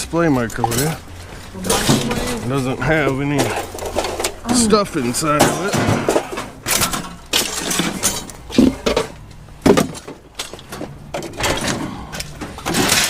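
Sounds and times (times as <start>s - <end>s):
scrap metal clanking: 0.4s - 13.0s.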